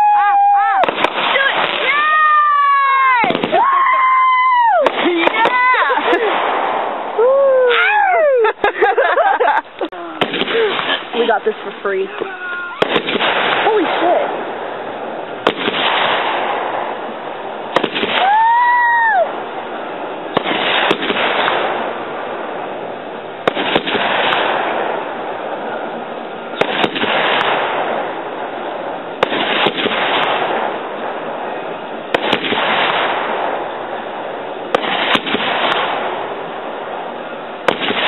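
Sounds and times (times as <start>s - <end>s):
fireworks bangs: 0.0s - 38.0s
fireworks crackling: 0.0s - 38.0s.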